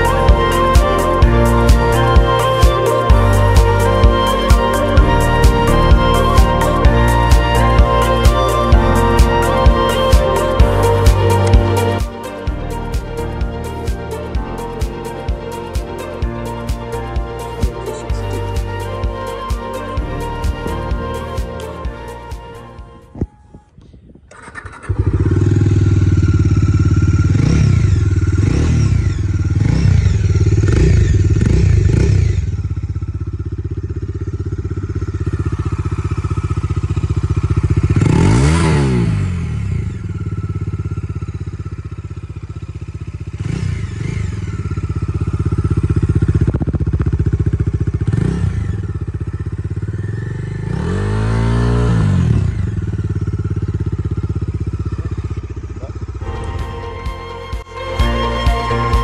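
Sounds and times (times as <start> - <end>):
motorcycle engine revving: 0.0 - 23.2, 24.3 - 59.0.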